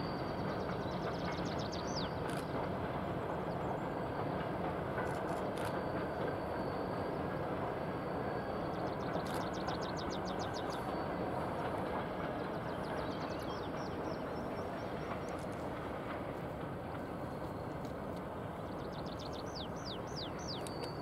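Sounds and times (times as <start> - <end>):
distant freight train rumble: 0.0 - 21.0.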